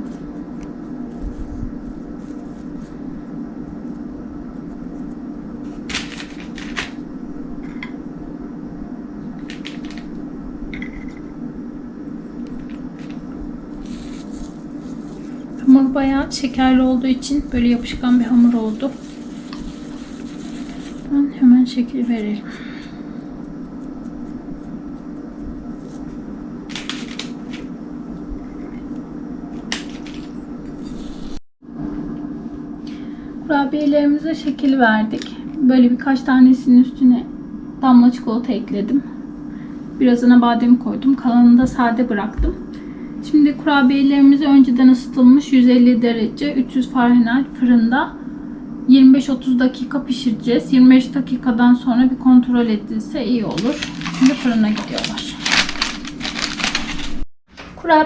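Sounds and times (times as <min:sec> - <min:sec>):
steady low hum: 0:00.0 - 0:57.2.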